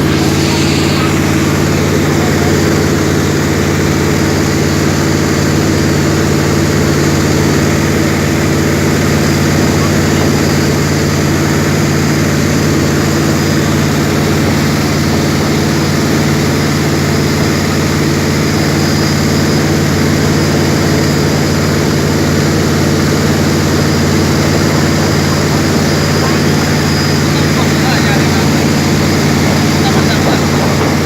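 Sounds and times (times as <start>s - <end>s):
jet boat engine drone: 0.0s - 31.0s.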